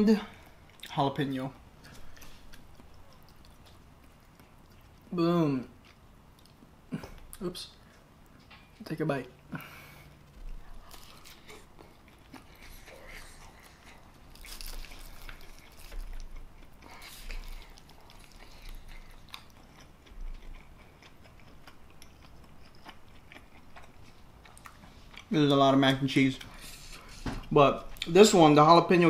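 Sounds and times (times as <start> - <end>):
person chewing food: 1.7 - 8.7, 9.4 - 28.2.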